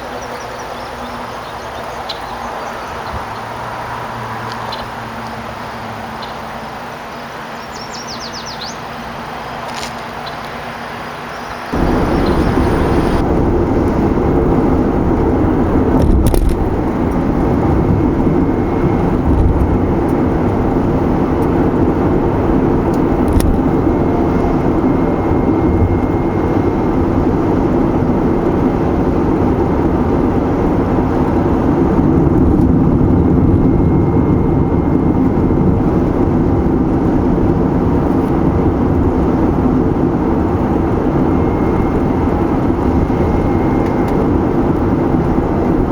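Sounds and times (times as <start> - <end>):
car tyre and engine noise: 0.0 - 45.9.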